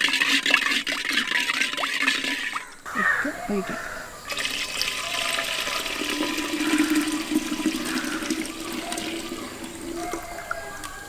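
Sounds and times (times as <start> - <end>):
milk pouring into clay pot: 0.0 - 3.2, 4.2 - 11.0.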